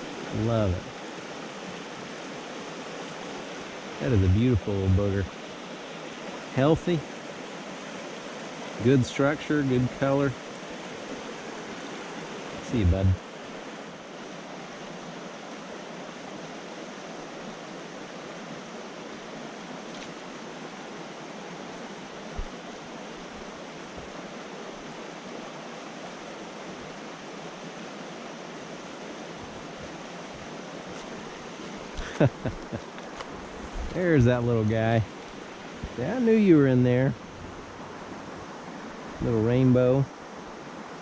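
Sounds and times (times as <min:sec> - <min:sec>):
creek water flowing: 0:00.0 - 0:41.0.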